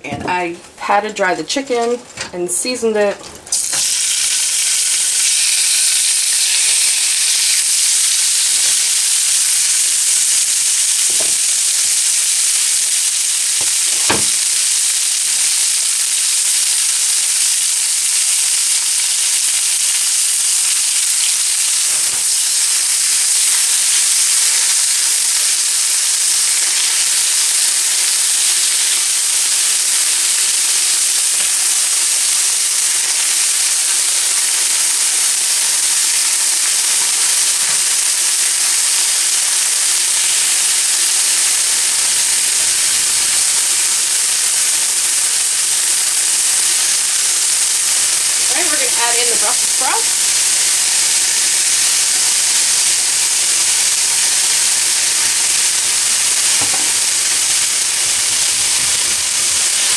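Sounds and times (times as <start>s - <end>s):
chicken sizzling in oil: 2.6s - 59.9s.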